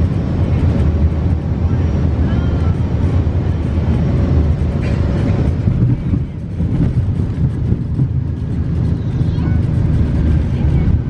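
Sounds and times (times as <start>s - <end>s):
jet engines and wheels rumbling: 0.0s - 11.0s.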